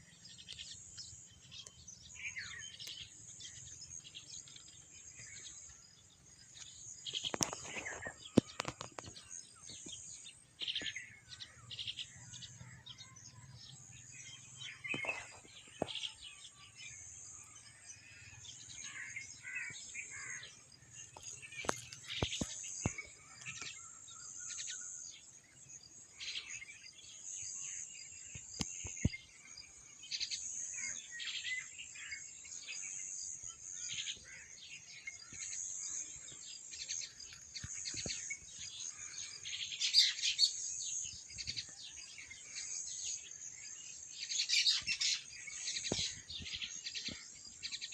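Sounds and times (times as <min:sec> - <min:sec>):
wild birds chirping and singing: 0:00.0 - 0:47.9.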